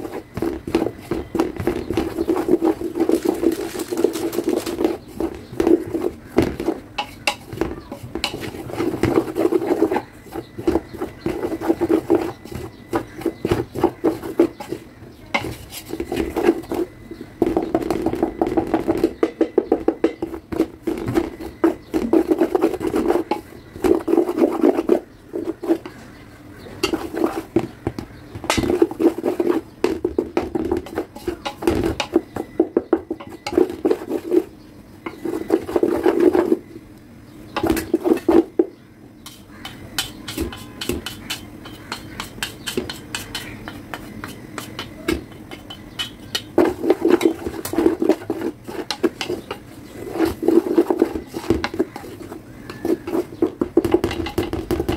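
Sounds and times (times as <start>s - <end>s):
spatula scraping a steel bowl: 0.0s - 36.7s, 37.5s - 54.9s.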